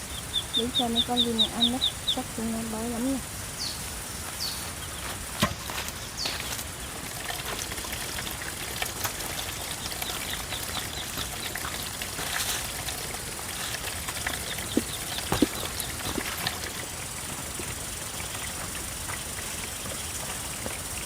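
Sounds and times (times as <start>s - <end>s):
small birds chirping: 0.0s - 5.4s, 6.0s - 7.2s, 9.2s - 21.0s
steady outdoor hiss: 0.0s - 21.0s.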